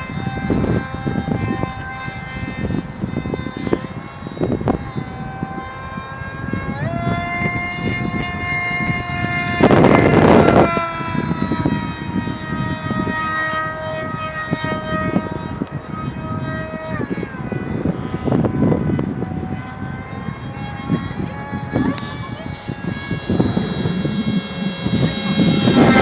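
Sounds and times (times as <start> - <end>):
electric motor and propeller whining: 0.0 - 26.0
wind noise on microphone: 0.0 - 26.0.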